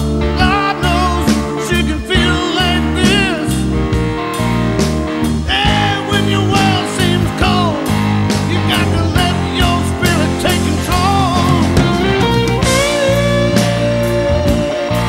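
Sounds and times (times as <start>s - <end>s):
music with steady beat: 0.0s - 15.0s
stepping bass line: 0.0s - 15.0s
wavering lead melody: 0.0s - 15.0s.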